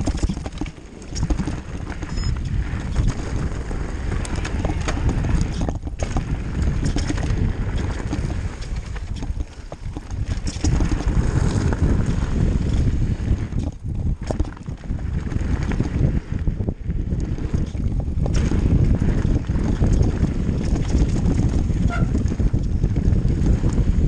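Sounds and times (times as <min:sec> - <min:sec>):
bike clattering over bumps: 0:00.0 - 0:24.0
tyres rumbling over gravel: 0:00.0 - 0:24.0
wind rushing over microphone: 0:00.0 - 0:24.0.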